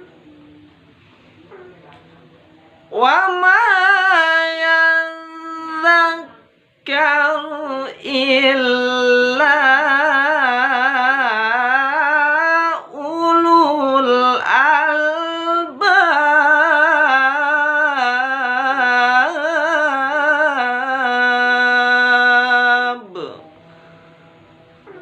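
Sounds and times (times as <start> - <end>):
person chanting melodically: 0.0 - 25.0.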